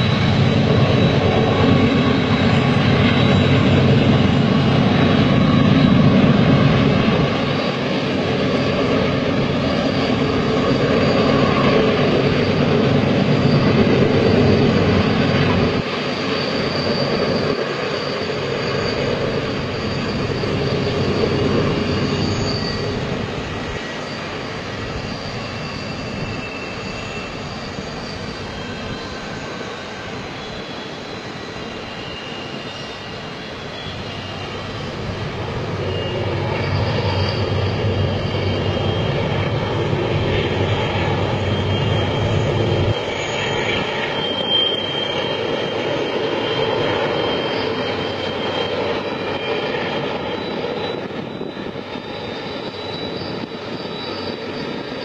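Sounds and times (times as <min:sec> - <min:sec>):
freight train rumbling: 0:00.0 - 0:55.0
high wheel squeals: 0:00.0 - 0:55.0.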